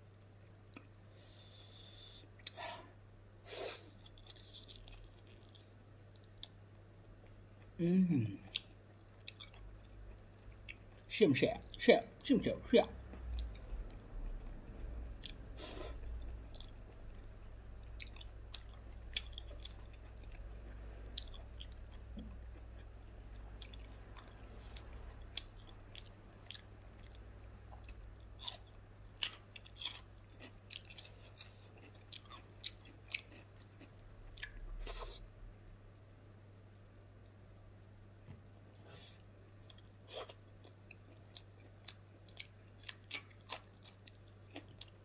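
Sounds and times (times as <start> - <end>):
steady low hum: 0.0 - 45.0
chewing food: 3.8 - 7.8, 8.4 - 12.2, 12.9 - 35.2, 37.2 - 45.0.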